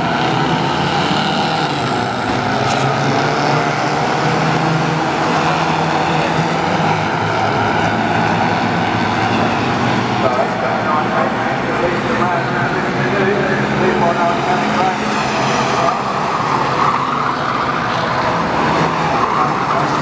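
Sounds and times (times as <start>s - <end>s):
stock car engines racing: 0.0s - 20.0s.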